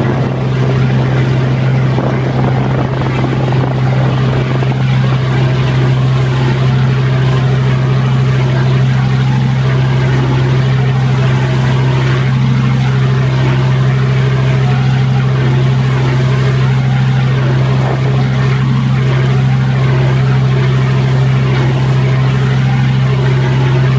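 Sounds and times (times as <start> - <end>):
ferry engine droning: 0.0 - 23.9.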